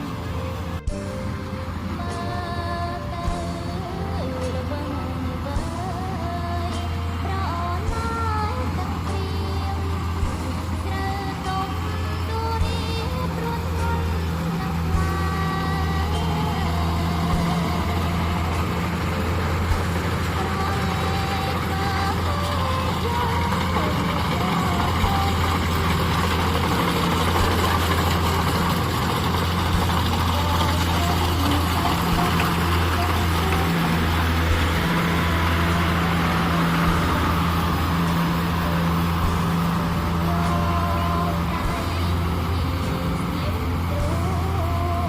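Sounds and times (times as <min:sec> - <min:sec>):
diesel engine running: 0:00.0 - 0:45.0
machine mechanical noise: 0:00.0 - 0:45.0.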